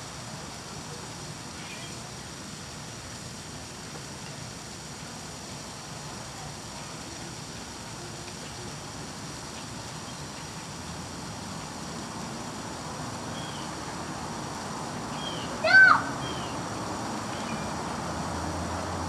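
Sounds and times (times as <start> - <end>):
background hiss and rumble: 0.0 - 19.0.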